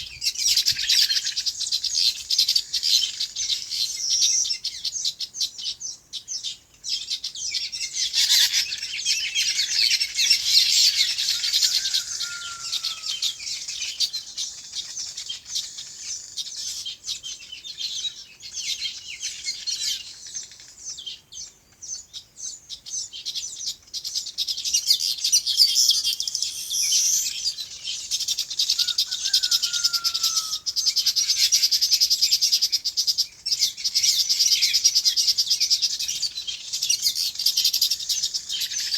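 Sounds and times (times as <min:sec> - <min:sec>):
flock of small birds chirping: 0:00.0 - 0:38.9.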